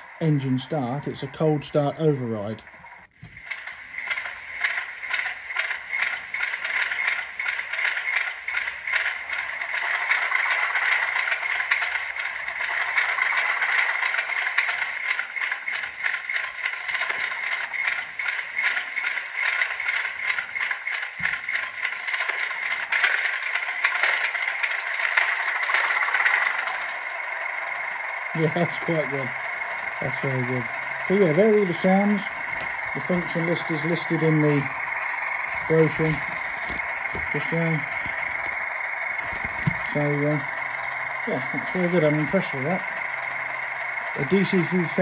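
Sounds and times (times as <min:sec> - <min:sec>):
model diesel engine sound from speaker: 0:00.0 - 0:45.0.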